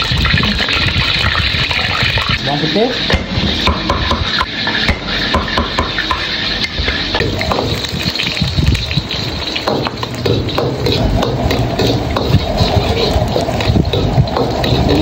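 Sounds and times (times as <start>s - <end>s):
garlic sizzling in hot oil: 0.0s - 15.0s
gas burner roaring: 0.0s - 15.0s
metal ladle scraping a pan: 0.0s - 15.0s.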